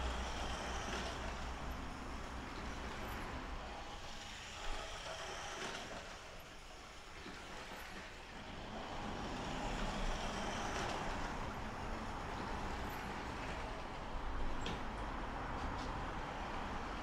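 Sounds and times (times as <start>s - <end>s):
model train running on metal track: 0.0s - 17.0s.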